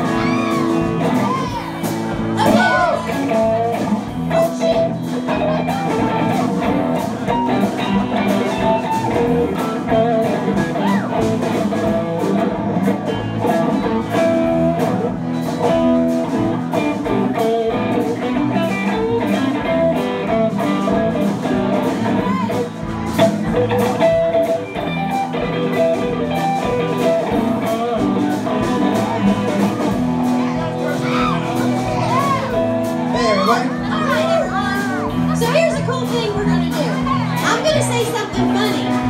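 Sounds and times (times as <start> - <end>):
drum kit: 0.0 - 39.0
electric guitars: 0.0 - 39.0
lead guitar bending notes: 0.0 - 39.0.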